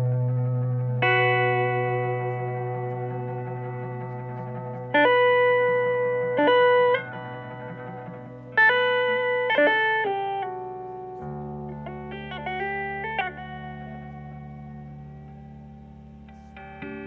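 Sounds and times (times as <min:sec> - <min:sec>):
low held tone: 0:00.0 - 0:17.0
plucked notes ringing: 0:00.0 - 0:17.0.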